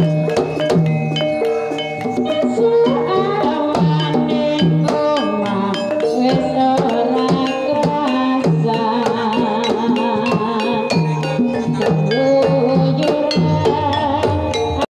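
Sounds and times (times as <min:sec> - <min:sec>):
hand drum beats: 0:00.0 - 0:14.9.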